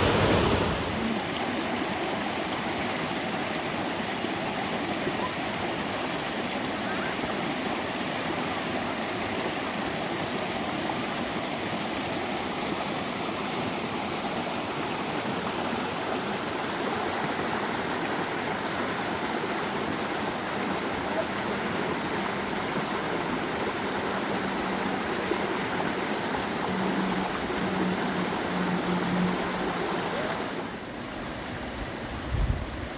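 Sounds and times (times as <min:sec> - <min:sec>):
stream rushing water: 0:00.0 - 0:32.9.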